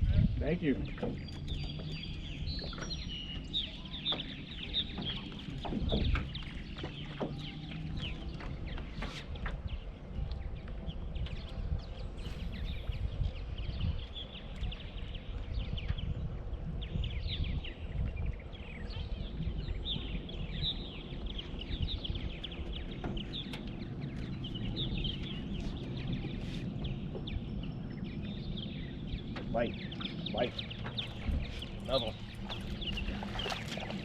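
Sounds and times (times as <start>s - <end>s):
birds chirping: 0.0s - 34.0s
steady low rumble: 0.0s - 34.0s.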